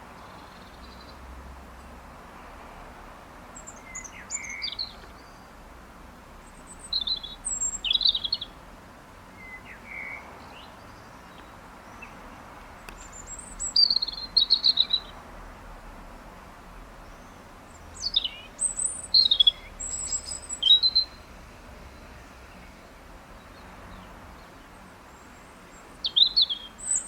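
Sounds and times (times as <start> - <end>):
songbird singing: 0.0 - 2.1, 3.3 - 15.7, 16.5 - 27.0
steady background hiss: 0.0 - 27.0.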